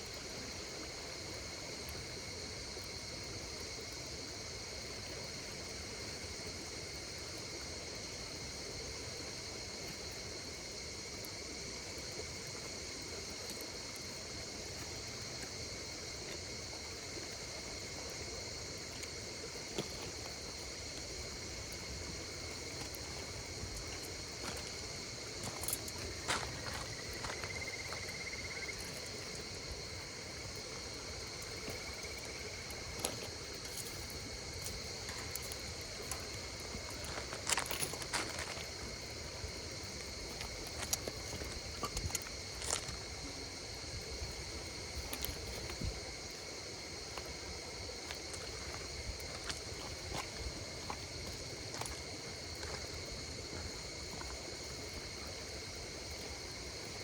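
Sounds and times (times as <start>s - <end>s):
campfire crackling: 0.0s - 57.0s
insects droning: 0.0s - 57.0s.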